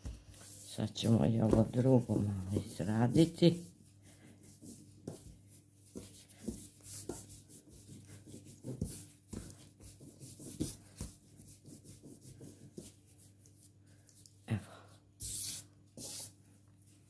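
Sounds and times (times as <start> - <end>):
hands kneading bread dough: 0.0 - 17.0.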